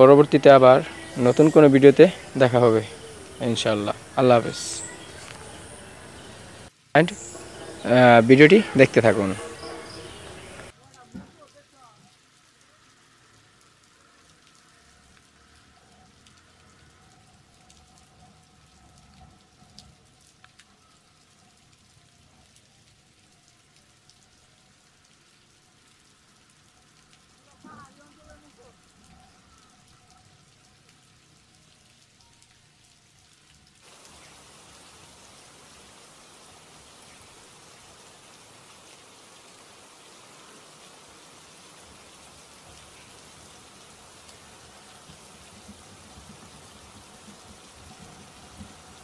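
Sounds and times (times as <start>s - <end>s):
faint rain patter: 0.0s - 49.0s.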